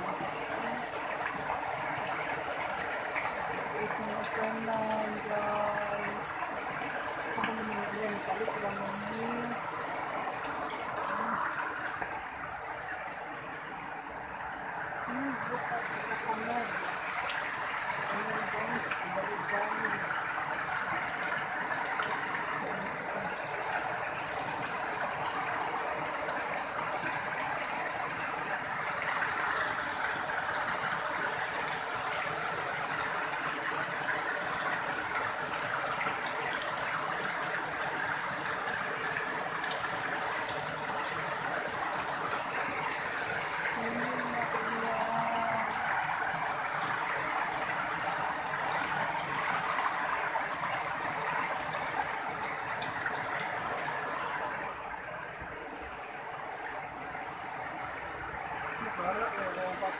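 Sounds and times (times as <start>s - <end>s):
floodwater rushing in a channel: 0.0s - 59.9s.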